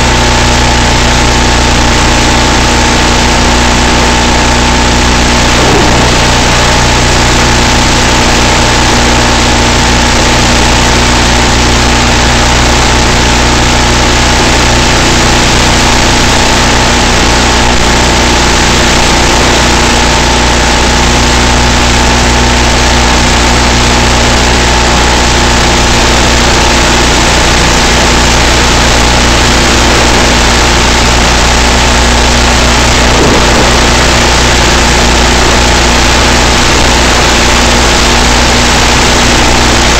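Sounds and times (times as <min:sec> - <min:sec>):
loud steady hiss: 0:00.4 - 0:39.9
low hum: 0:02.6 - 0:39.9.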